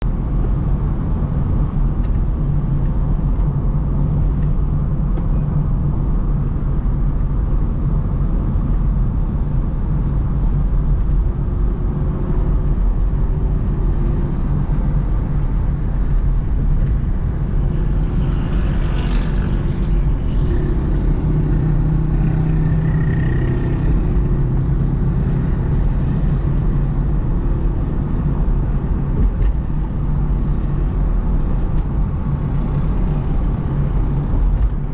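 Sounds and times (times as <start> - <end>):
car engine: 0.0 - 34.9
tyre noise on road: 0.0 - 34.9.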